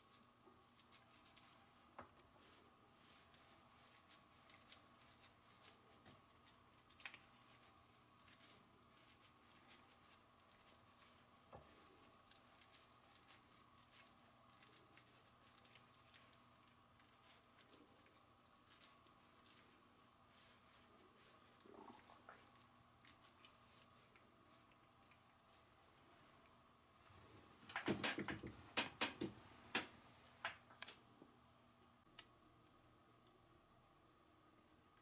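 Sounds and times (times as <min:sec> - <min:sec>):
soft clicks and sticky squishes: 0:00.0 - 0:29.2.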